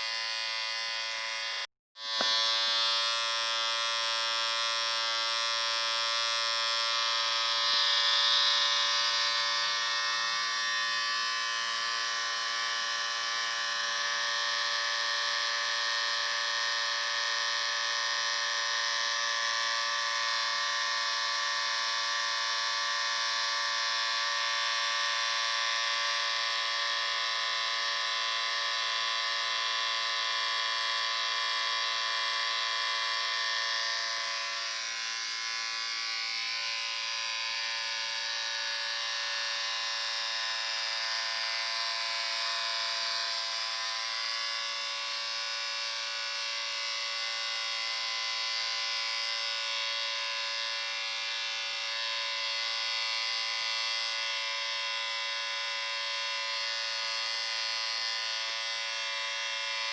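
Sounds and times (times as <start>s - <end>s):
electric shaver buzzing: 0.0s - 59.9s.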